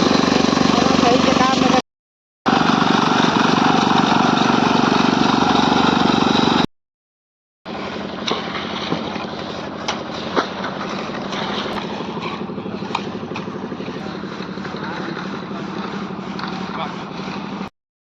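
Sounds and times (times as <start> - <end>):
construction machinery engine running: 0.0 - 1.8, 2.5 - 6.7, 7.7 - 17.7.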